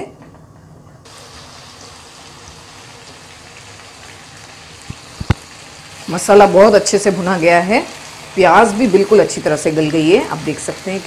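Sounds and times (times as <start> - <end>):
meat frying sizzling hiss: 1.1 - 11.0.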